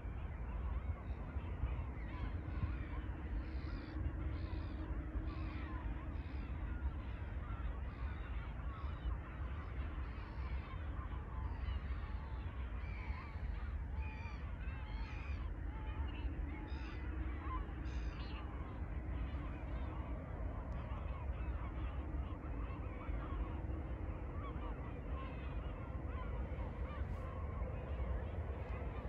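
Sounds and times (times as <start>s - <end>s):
flock of birds calling: 0.0s - 29.0s
wind rumble on microphone: 0.0s - 29.0s.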